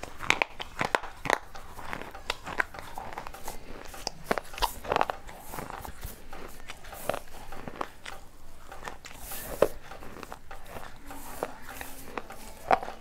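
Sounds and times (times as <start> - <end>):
crunchy chewing close up: 0.0 - 13.0.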